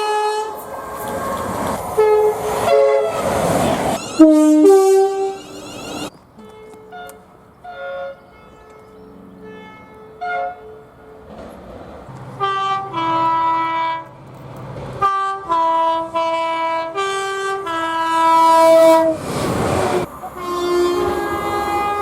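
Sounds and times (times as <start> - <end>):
two-tone train horn blasts: 0.0 - 11.3, 12.3 - 14.2, 15.0 - 19.2, 19.9 - 22.0.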